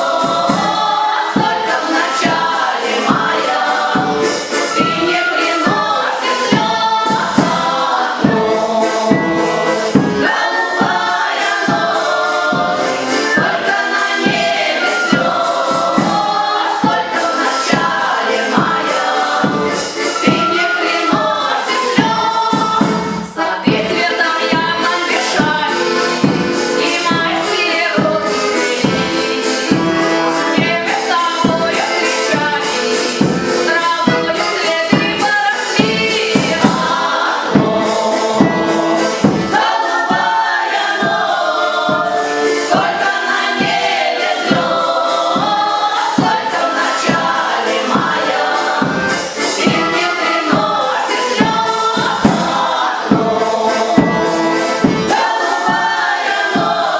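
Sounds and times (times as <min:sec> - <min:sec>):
band playing steady beat: 0:00.0 - 0:56.9
voices singing together: 0:00.0 - 0:56.9.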